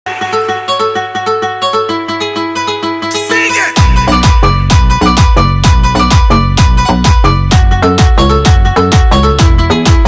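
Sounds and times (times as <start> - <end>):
plucked string melody: 0.1 - 10.0.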